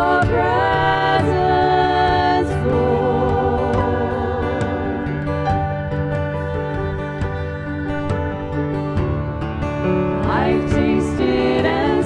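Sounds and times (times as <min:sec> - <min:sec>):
acoustic guitar: 0:00.0 - 0:12.0
violin: 0:00.0 - 0:12.0.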